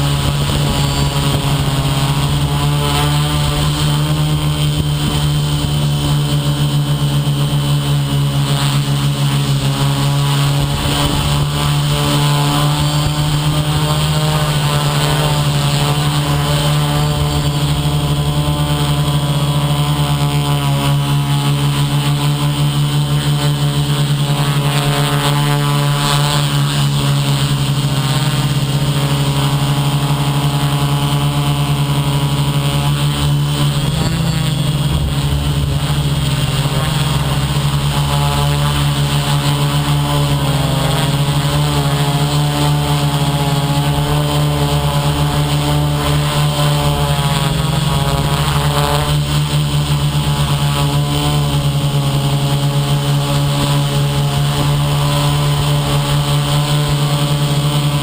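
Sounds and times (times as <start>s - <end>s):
drone motors buzzing: 0.0s - 58.0s.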